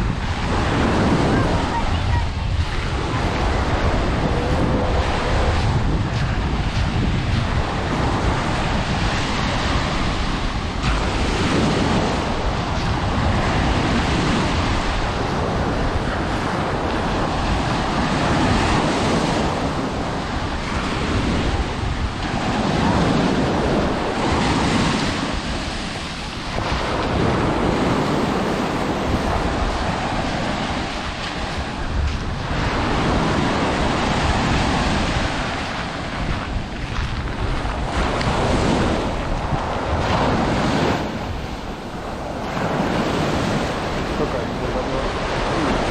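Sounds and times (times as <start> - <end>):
surf breaking on beach: 0.0 - 45.9
wind buffeting microphone: 0.0 - 45.9.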